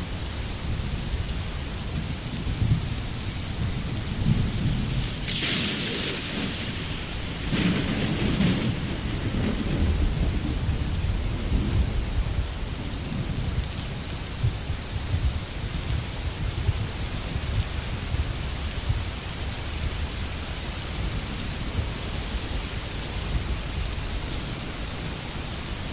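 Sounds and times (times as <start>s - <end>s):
low rumble of thunder: 0.0s - 25.9s
rain falling on a forest: 0.0s - 25.9s.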